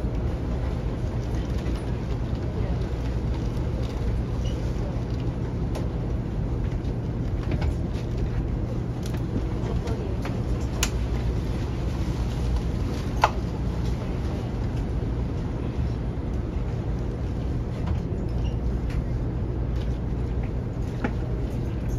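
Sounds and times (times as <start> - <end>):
train cabin rumble: 0.0 - 21.9.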